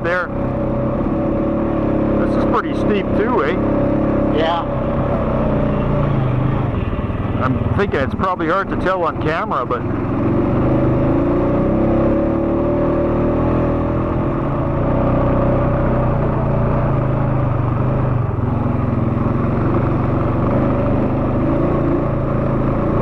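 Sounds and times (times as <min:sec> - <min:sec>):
atv engine climbing: 0:00.0 - 0:23.0.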